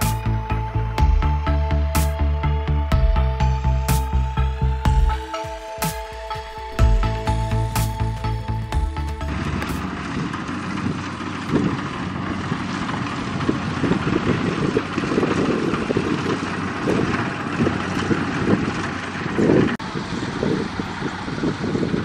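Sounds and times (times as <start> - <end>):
diesel tractor engine chugging: 0.0 - 22.0.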